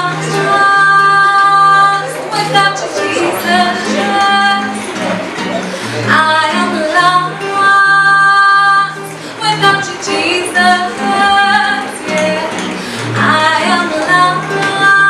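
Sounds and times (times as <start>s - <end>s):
woman singing: 0.0s - 5.2s, 5.8s - 15.0s
acoustic guitar: 0.0s - 15.0s.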